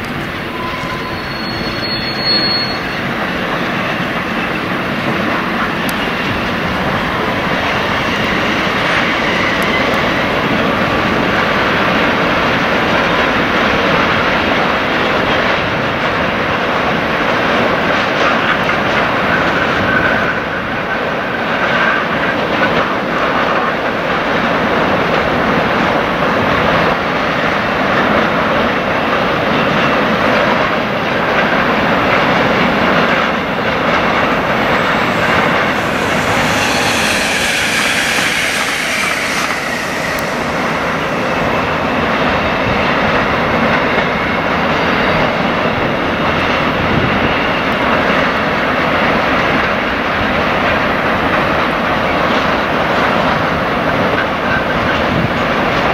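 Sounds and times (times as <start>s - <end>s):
train squeal and hiss: 0.0s - 28.4s, 31.4s - 55.9s.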